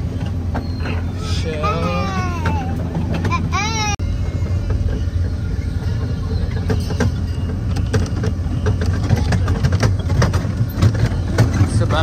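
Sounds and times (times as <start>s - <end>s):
low engine drone: 0.0s - 12.0s
train car rattles and knocks: 0.0s - 12.0s.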